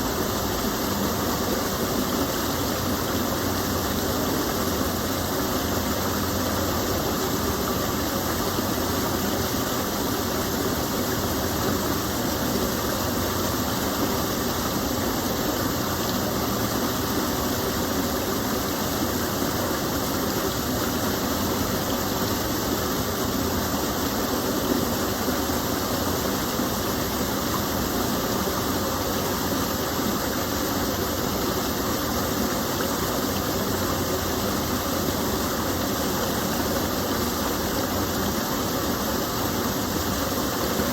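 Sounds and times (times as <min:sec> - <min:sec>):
water pouring down waterfall: 0:00.0 - 0:40.9.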